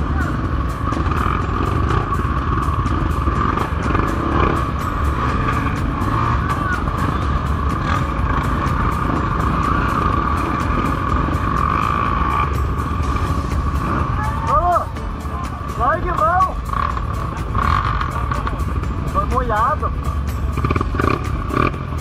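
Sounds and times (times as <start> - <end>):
background music with steady beat: 0.0 - 22.0
dirt bike engines running: 0.0 - 22.0.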